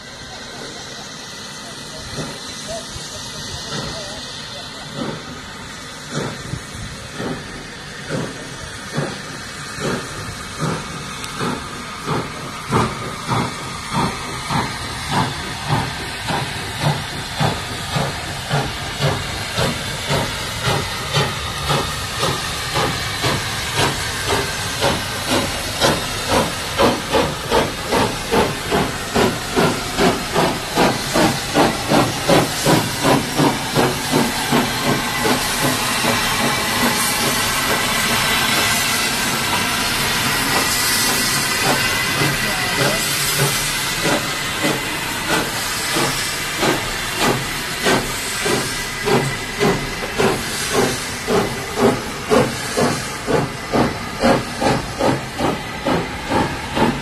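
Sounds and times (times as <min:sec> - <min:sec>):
steam hissing: 0:00.0 - 0:57.0
steam locomotive exhaust beats: 0:00.0 - 0:57.0.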